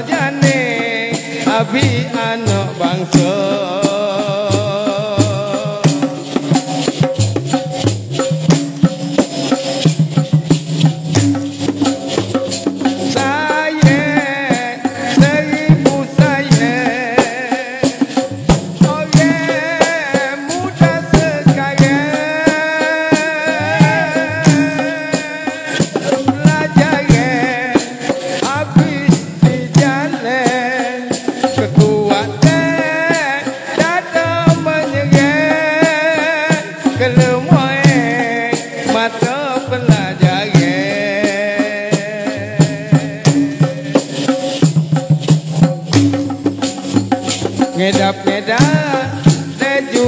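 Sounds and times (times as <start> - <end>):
drums and maracas beat: 0.0 - 50.0
shaker rattling: 0.0 - 50.0.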